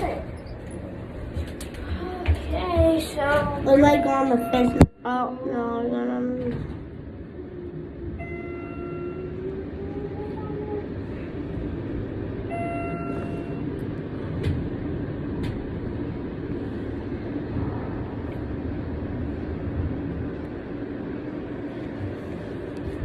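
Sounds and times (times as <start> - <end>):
elevator rumble and motor hum: 0.0 - 23.0.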